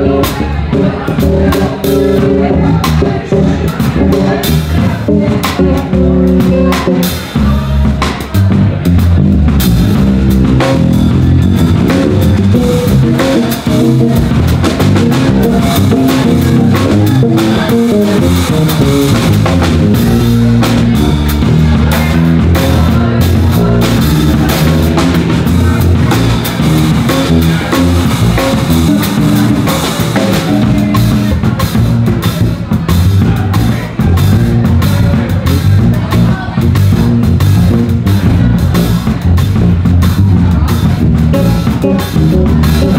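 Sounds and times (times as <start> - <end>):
drum kit with cymbals: 0.0 - 42.9
electric bass guitars playing: 0.0 - 42.9.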